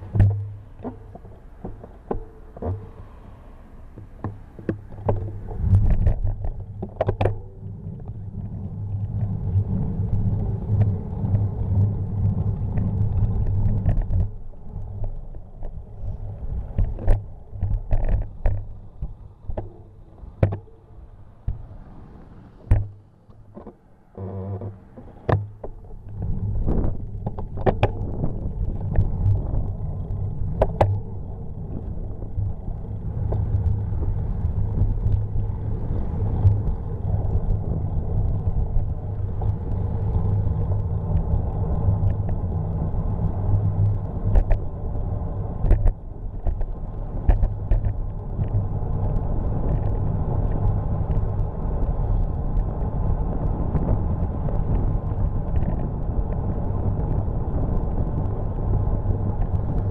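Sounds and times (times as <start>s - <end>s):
bike clicks and knocks: 0.0s - 21.8s, 22.5s - 59.9s
road rumble: 0.0s - 59.9s
wind noise: 0.0s - 59.9s.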